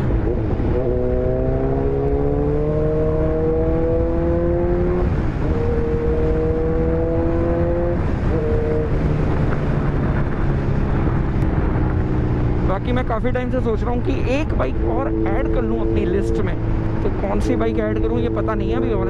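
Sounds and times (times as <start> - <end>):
motorcycle engine revving: 0.0 - 19.0
wind and road noise: 0.0 - 19.0.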